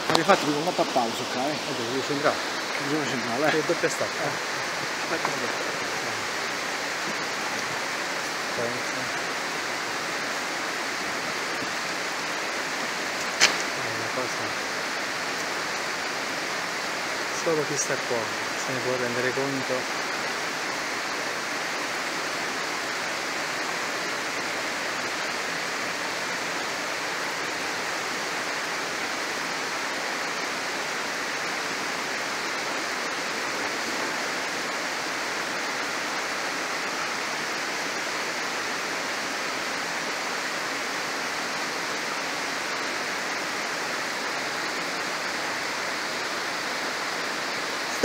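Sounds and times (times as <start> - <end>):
mountain stream rushing: 0.0 - 48.0.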